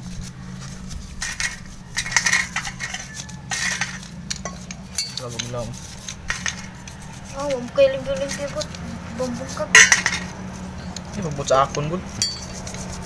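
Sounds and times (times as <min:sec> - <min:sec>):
metal tools clinking: 0:00.0 - 0:13.0
steady low hum: 0:00.0 - 0:13.0.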